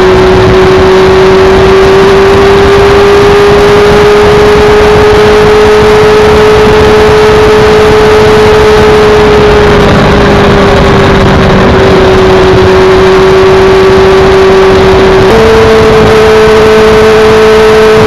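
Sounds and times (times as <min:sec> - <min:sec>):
motorcycle engine cruising: 0:00.0 - 0:18.0
road noise: 0:00.0 - 0:18.0
wind rush: 0:00.0 - 0:18.0.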